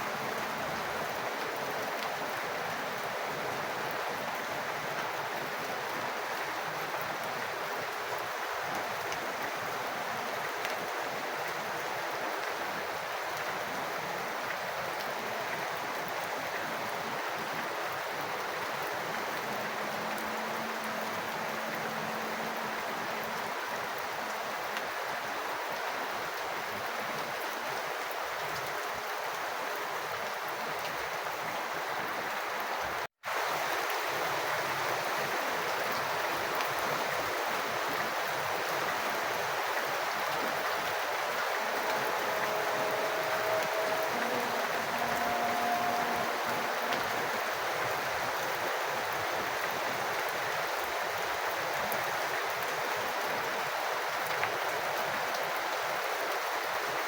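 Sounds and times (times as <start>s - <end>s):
rain water splashing: 0.0s - 57.0s.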